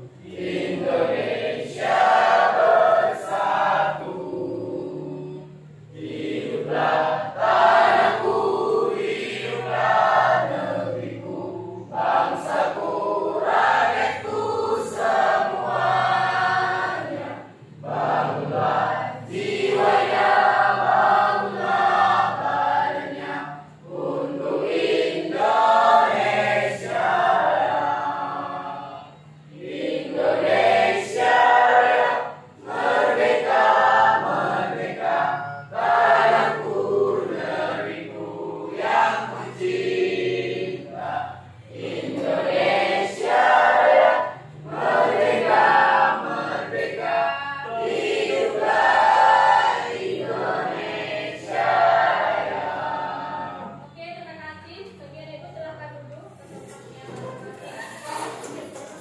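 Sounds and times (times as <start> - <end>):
students singing in unison: 0.0 - 53.9.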